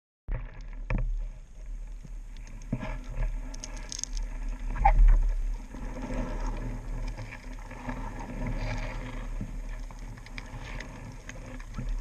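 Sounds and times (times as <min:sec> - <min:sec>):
underwater rumble of moving water: 0:00.3 - 0:12.0.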